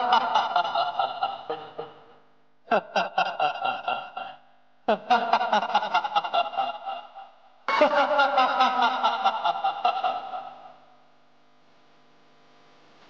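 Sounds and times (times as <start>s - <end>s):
man laughing loudly: 0.0s - 10.8s.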